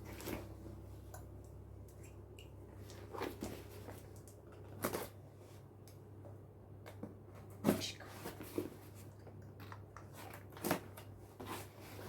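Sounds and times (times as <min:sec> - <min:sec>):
low steady hum: 0:00.0 - 0:10.3.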